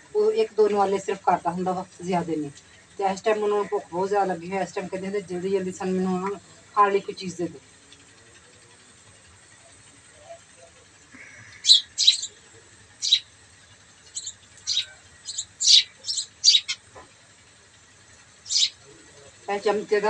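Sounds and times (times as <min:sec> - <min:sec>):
faint low hum: 0:00.0 - 0:20.0
small birds chirping: 0:00.0 - 0:20.0.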